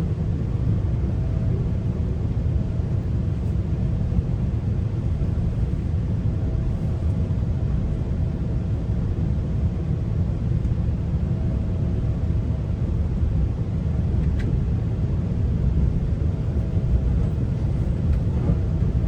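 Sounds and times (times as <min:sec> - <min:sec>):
train coach rumbling on track: 0:00.0 - 0:19.0.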